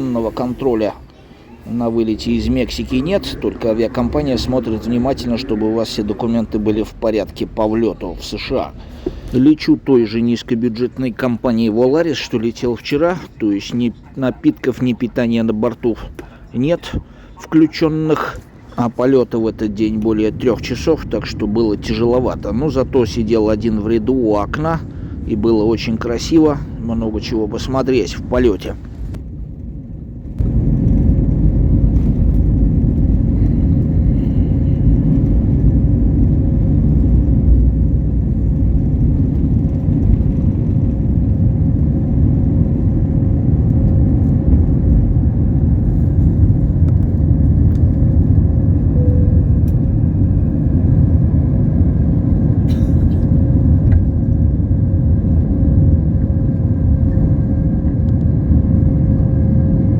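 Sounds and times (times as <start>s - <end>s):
faint steady hum: 0.0s - 51.9s
airliner cabin engine rumble: 0.0s - 59.9s.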